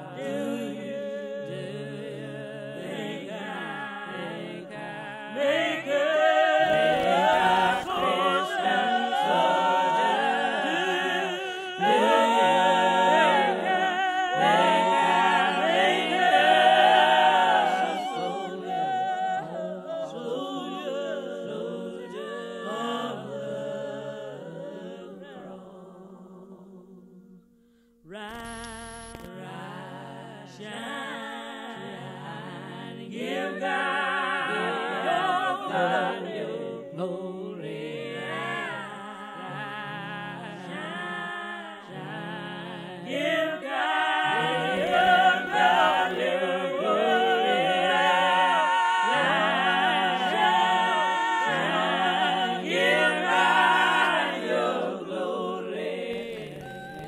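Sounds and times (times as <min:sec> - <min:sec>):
unaccompanied choir singing: 0:00.0 - 0:27.4, 0:29.2 - 0:57.0.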